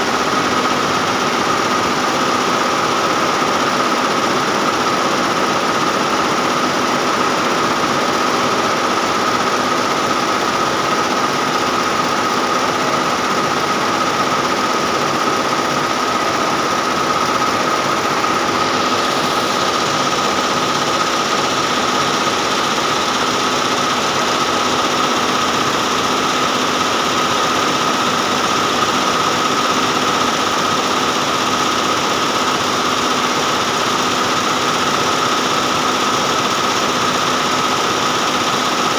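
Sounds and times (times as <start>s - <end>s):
embroidery machine clattering: 0.0s - 38.9s.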